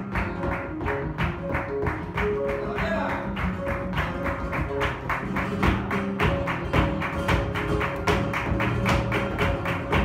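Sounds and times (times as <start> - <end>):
flamenco guitar: 0.0 - 10.0
percussive dance footwork: 0.0 - 10.0
rhythmic hand clapping: 0.0 - 10.0.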